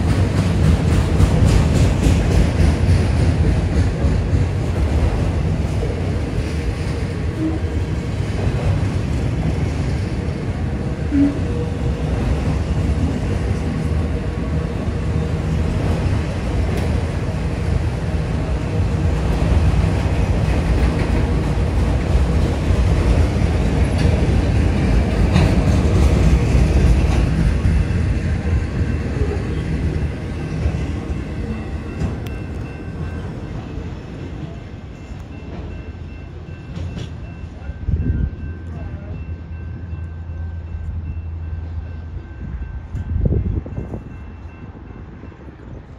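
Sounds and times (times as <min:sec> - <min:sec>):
freight train wheels rumbling: 0:00.0 - 0:45.9.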